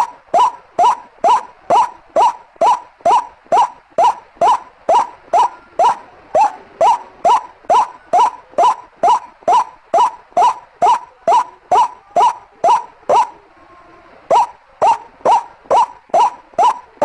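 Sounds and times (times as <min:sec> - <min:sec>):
waterhen call: 0:00.0 - 0:13.6, 0:14.2 - 0:17.0.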